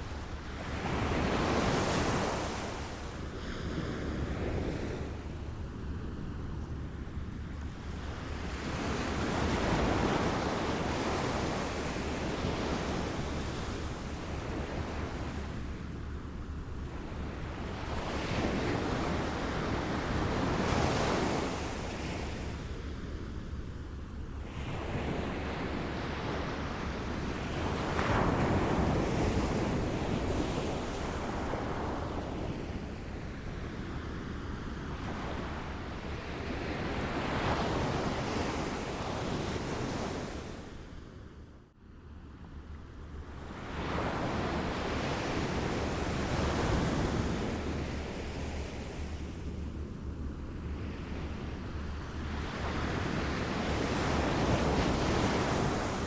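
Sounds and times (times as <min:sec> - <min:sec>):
waves lapping at the shore: 0:00.0 - 0:41.0, 0:42.5 - 0:56.0.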